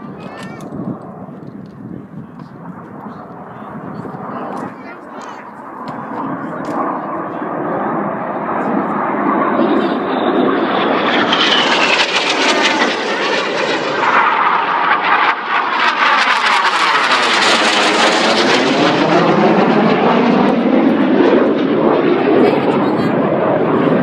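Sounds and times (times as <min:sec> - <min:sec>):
aircraft flying low past: 0:00.0 - 0:24.0.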